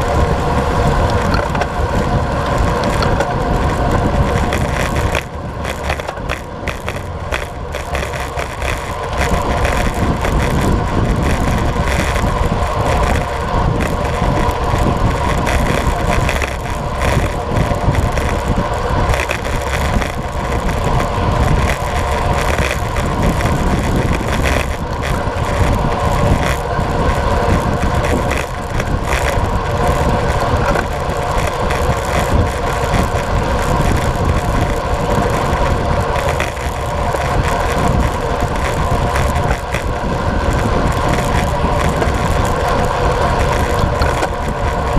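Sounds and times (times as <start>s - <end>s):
tyres humming on asphalt: 0.0s - 44.9s
wind rushing on microphone: 0.0s - 44.9s.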